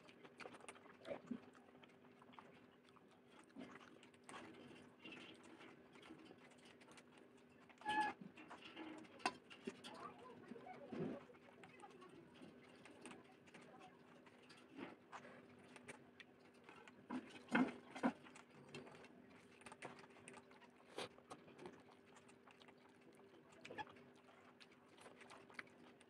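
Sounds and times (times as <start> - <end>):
person chewing food: 0.0 - 9.9, 11.2 - 26.0.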